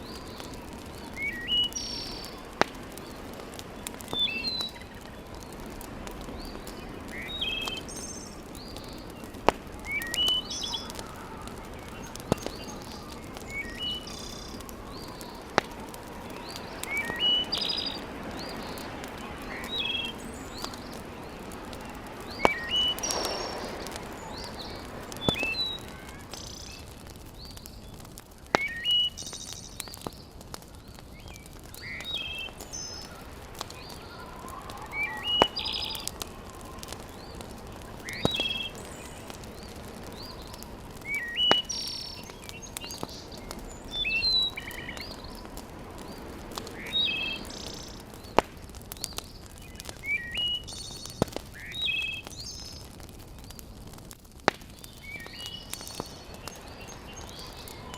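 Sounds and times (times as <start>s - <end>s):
birds chirping: 0.0s - 57.9s
wood fire crackling: 0.0s - 57.9s.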